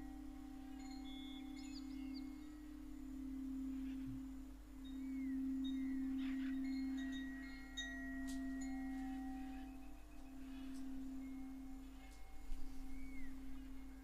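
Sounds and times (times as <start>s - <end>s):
birds calling: 0.0s - 14.0s
singing bowl low hum: 0.0s - 14.0s.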